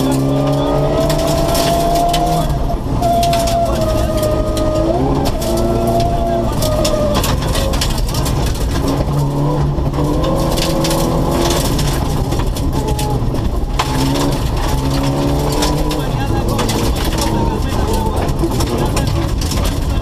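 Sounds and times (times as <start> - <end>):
gravel crackling under tyres: 0.0 - 20.0
rally car engine revving: 0.0 - 20.0.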